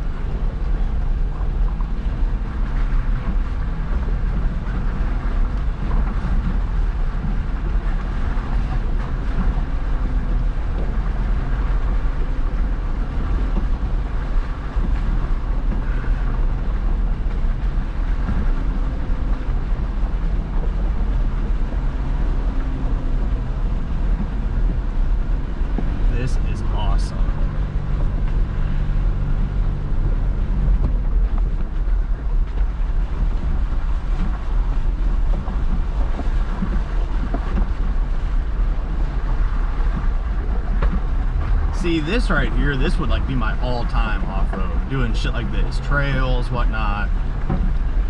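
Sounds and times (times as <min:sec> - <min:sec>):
vehicle engine running low rumble: 0:00.0 - 0:48.0.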